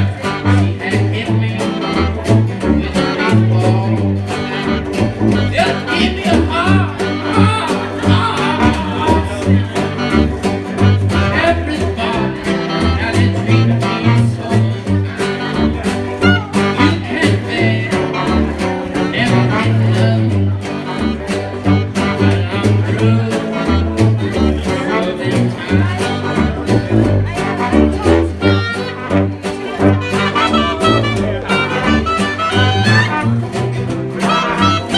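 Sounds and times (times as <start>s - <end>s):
clarinet: 0.0s - 34.9s
sousaphone bass line: 0.0s - 34.9s
strummed acoustic guitar: 0.0s - 34.9s
trombone: 0.0s - 34.9s.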